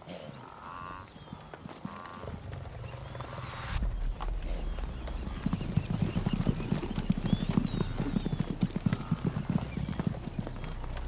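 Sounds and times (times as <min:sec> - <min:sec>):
hoofbeats drumming: 0:00.8 - 0:11.0.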